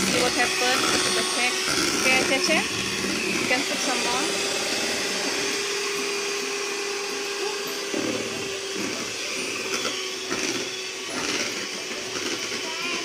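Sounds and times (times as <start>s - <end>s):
electric hand mixer whine: 0.0s - 13.0s.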